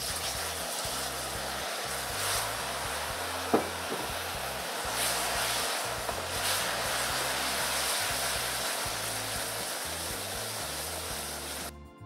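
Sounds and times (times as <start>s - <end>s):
caramel boiling and sizzling: 0.0s - 11.7s.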